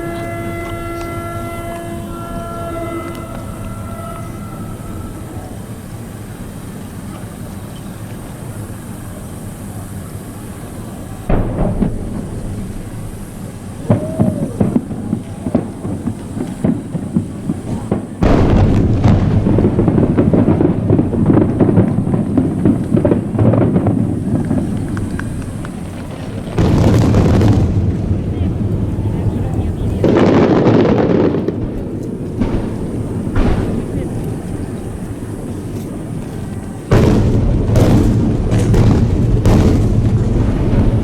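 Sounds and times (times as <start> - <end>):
firework whistle: 0.0 - 41.0
fireworks booming: 0.0 - 41.0.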